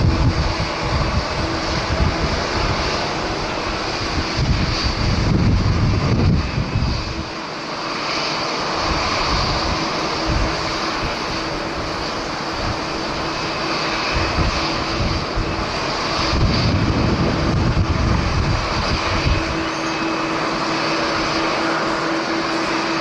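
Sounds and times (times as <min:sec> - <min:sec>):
wind buffeting microphone: 0:00.0 - 0:22.9
jet engines running: 0:00.0 - 0:23.0.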